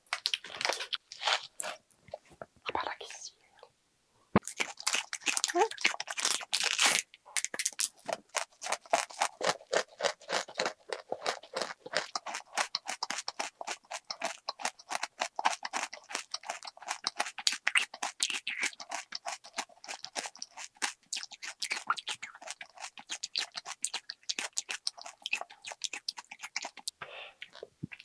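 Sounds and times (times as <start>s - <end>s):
chewing crunchy candies: 0.1s - 1.8s, 4.4s - 28.0s.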